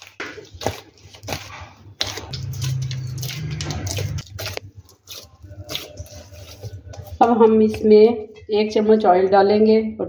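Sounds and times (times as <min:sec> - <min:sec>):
hands kneading dough: 0:00.0 - 0:08.1.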